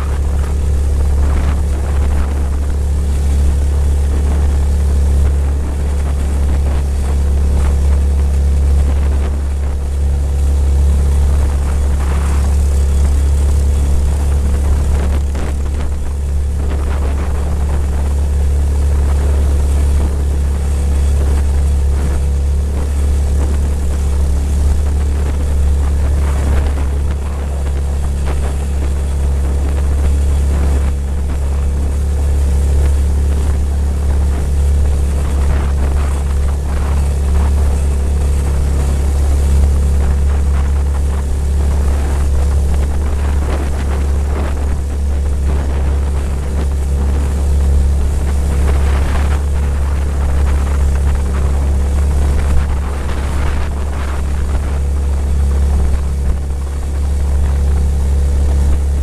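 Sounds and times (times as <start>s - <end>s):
small engine droning: 0.0s - 59.0s.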